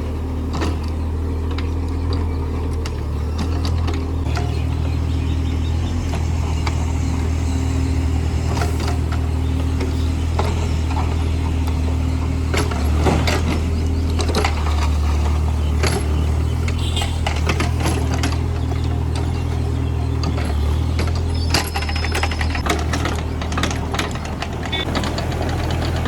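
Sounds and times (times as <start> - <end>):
digger diesel engine running: 0.0 - 26.0
metallic clanks and knocks: 0.4 - 5.2, 5.9 - 26.0.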